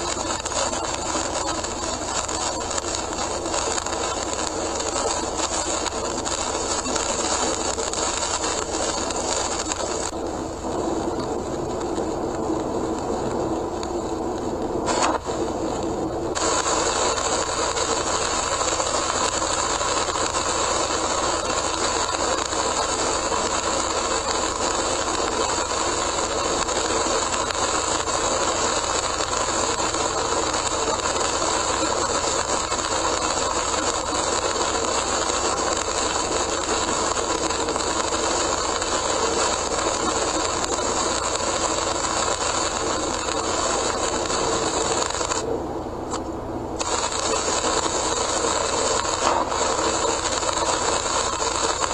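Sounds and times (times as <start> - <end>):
heavy rain and tyre spray: 0.0 - 45.4, 46.8 - 51.9.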